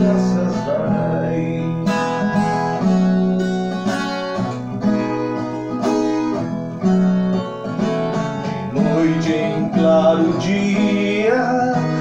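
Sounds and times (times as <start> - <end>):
guitar plucked melody: 0.0 - 12.0.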